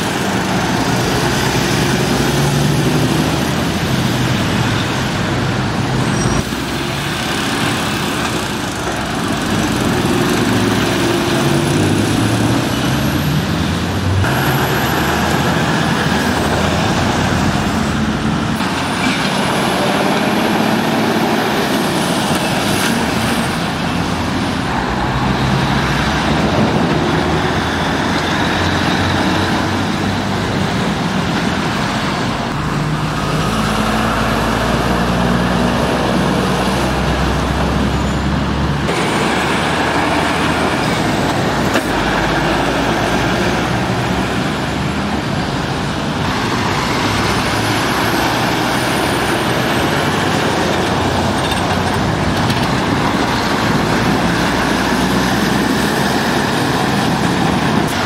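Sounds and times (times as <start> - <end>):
lorry diesel engines: 0.0 - 58.0
road traffic noise: 0.0 - 58.0.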